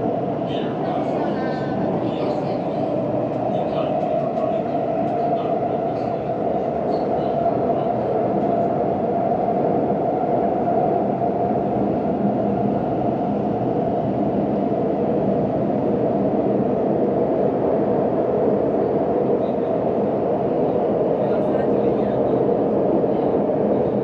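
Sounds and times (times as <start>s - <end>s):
metro train rumbling: 0.0s - 24.0s.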